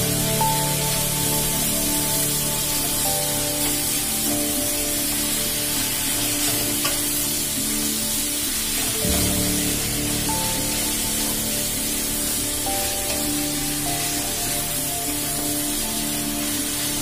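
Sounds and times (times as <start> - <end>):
background music: 0.0 - 17.0
onions sizzling in hot oil: 0.0 - 17.0.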